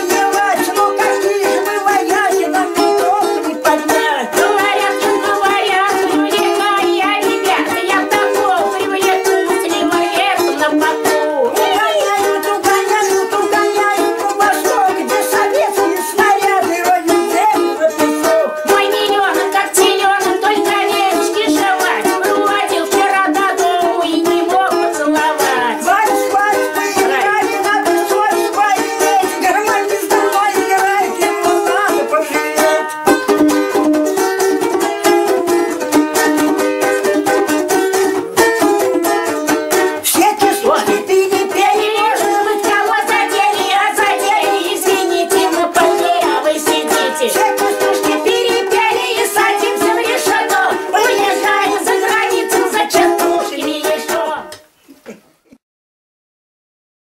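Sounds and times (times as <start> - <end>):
balalaikas strummed: 0.0 - 55.2.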